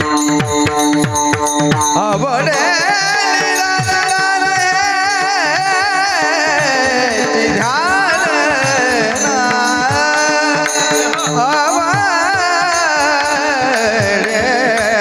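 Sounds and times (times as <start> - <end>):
hand drum beat: 0.0 - 15.0
person singing devotional song: 0.0 - 15.0.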